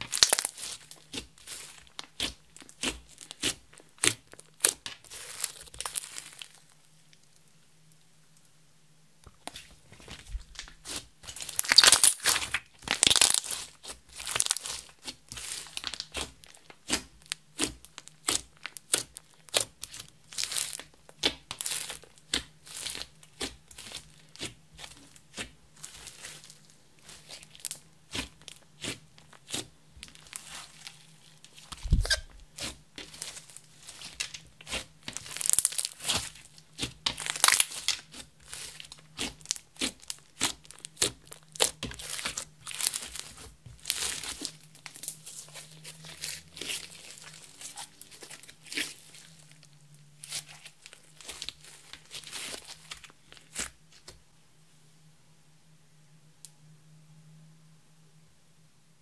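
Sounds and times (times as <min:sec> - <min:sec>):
sticky slime crackles and squishes: 0:00.0 - 0:08.0, 0:09.2 - 0:54.2.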